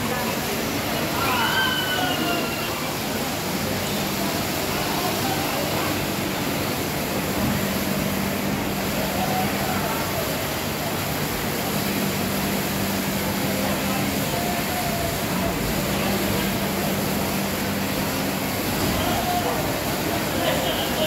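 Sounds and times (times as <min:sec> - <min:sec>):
water spraying from leaking pipe: 0:00.0 - 0:21.0.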